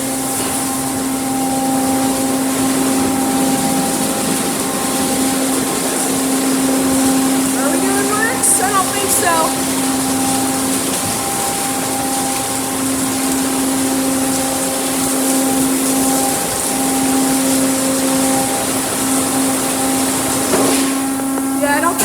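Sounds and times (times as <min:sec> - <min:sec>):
pump motor humming: 0:00.0 - 0:22.0.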